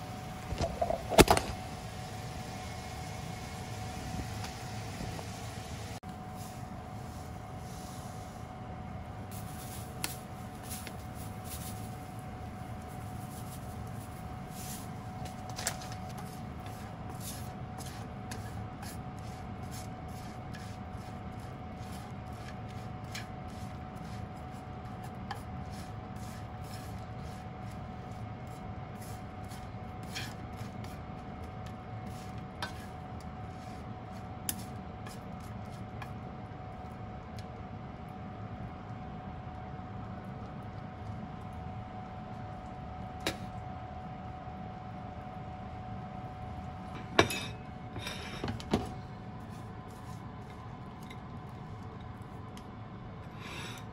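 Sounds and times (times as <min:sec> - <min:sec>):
background hum: 0:00.0 - 0:53.9
faint constant whine: 0:00.0 - 0:53.9.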